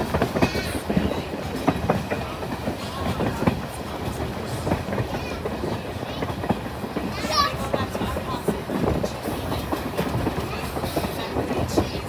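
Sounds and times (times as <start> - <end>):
train rolling rumble: 0.0 - 12.0
wheels clacking over rail joints: 0.0 - 12.0.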